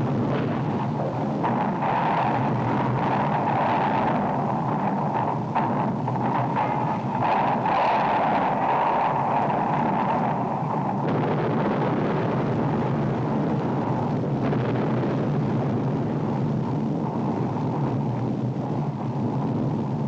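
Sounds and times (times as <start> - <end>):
volcano eruption rumble: 0.0 - 20.0.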